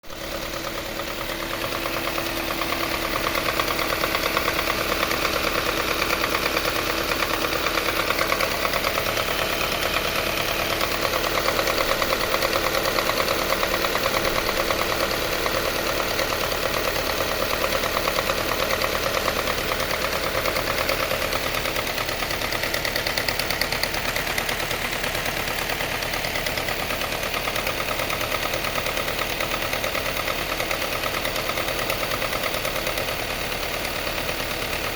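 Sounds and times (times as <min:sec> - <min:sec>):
car engine idling: 0:00.0 - 0:34.9
rapid ticking engine knock: 0:00.1 - 0:34.9.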